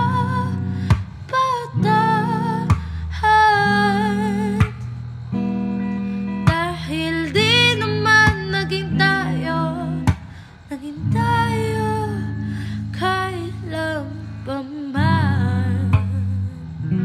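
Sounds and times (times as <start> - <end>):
woman singing with vibrato: 0.0 - 4.8, 6.4 - 16.9
acoustic guitar strummed slowly: 0.0 - 17.0.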